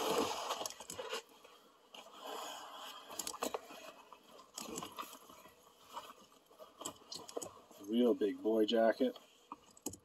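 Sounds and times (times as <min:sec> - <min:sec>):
fabric and packing rustling: 0:00.0 - 0:09.8.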